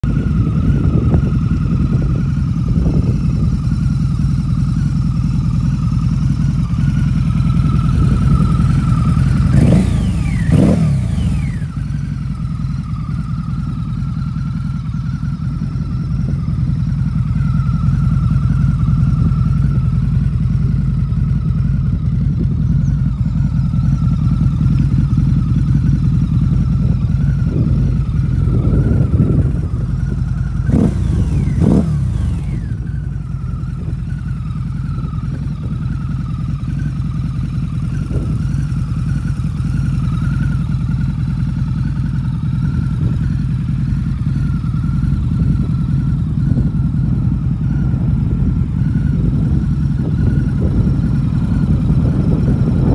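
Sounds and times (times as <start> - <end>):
motorcycle engine idling and revving: 0.0 - 52.9.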